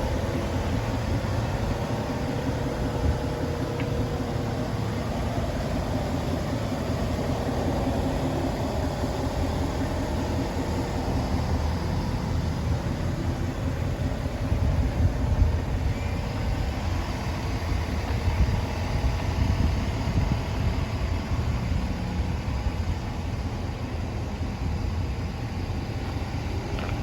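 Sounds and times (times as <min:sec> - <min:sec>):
car engine and road noise rumble: 0:00.0 - 0:27.0.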